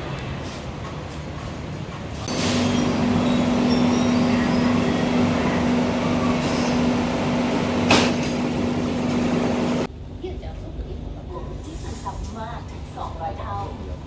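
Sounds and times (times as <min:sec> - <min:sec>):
train rumble: 0:00.0 - 0:14.0
electrical hum: 0:02.3 - 0:14.0.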